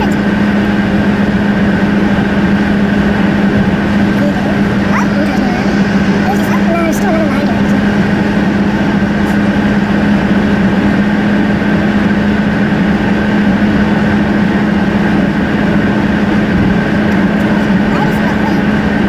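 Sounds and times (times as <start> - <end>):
car road noise at speed: 0.0 - 19.0.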